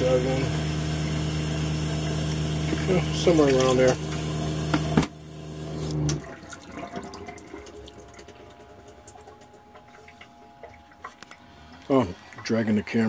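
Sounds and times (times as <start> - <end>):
water running into a metal sink: 0.0 - 13.0.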